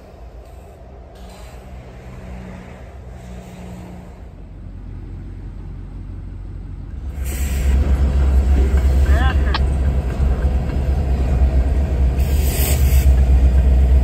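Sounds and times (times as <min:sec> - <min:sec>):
freight train rolling past: 0:00.0 - 0:14.0.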